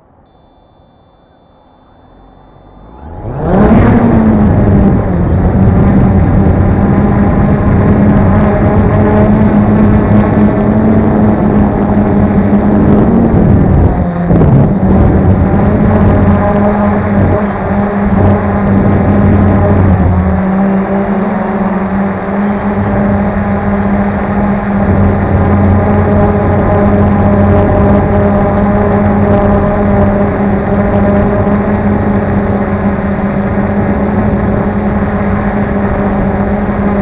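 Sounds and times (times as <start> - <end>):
drone propellers humming: 0.0 - 37.0
faint high electronic tone: 0.0 - 37.0.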